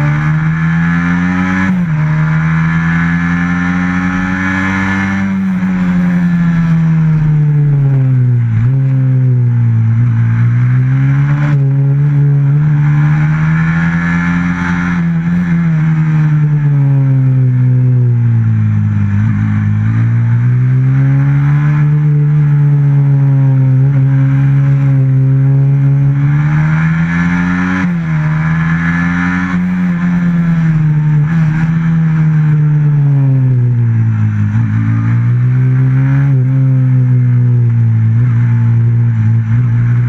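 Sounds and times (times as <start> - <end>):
racing motorcycle engine: 0.0 - 40.0.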